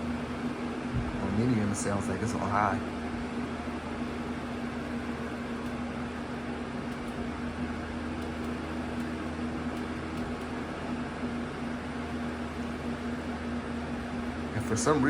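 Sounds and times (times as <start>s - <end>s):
box fan air rush: 0.0s - 15.0s
low motor hum: 0.0s - 15.0s.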